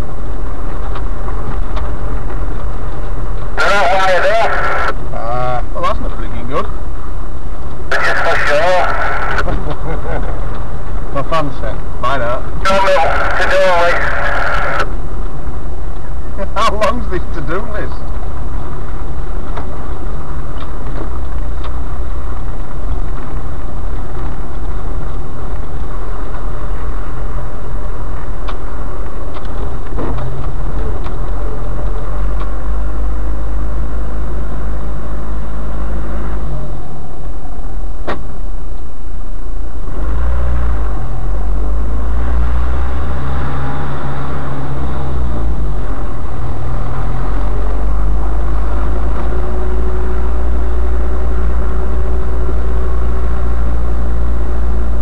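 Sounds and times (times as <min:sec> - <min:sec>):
vehicle engine on dirt track: 0:00.0 - 0:55.0.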